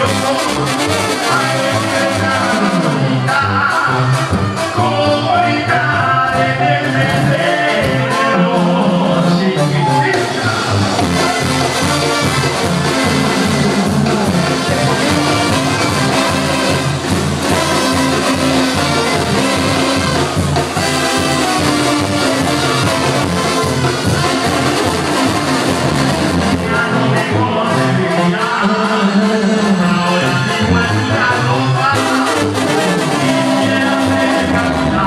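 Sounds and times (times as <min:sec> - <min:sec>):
brass section: 0:00.0 - 0:35.0
live latin band playing: 0:00.0 - 0:35.0.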